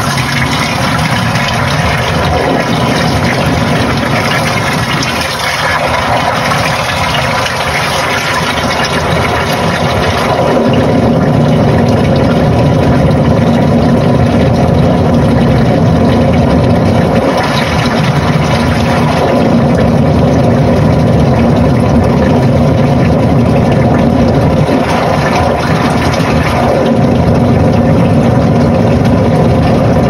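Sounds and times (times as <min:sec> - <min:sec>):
faint steady hum: 0:00.0 - 0:30.0
washing machine motor drone: 0:00.0 - 0:30.0.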